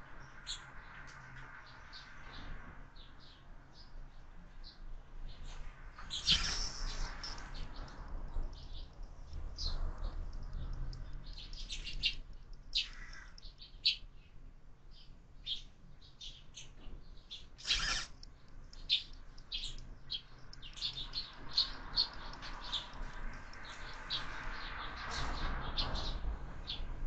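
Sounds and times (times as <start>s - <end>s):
sparrows chirping: 1.6s - 26.9s.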